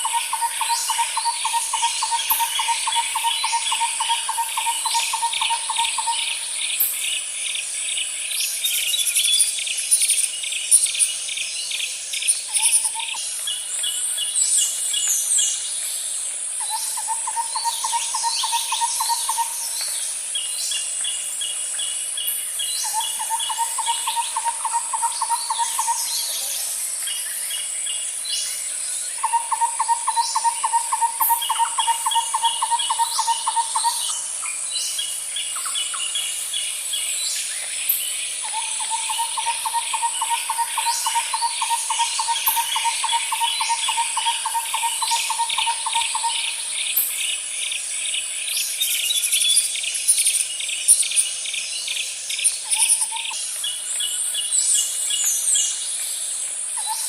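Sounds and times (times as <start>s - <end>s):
high insect hiss: 0.0s - 57.0s
insects chirping: 0.0s - 57.0s.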